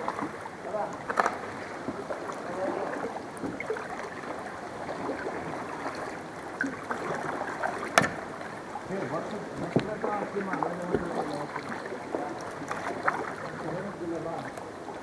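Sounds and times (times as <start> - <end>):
small water splashes: 0.0 - 15.0
water gurgling around kayak: 0.0 - 15.0.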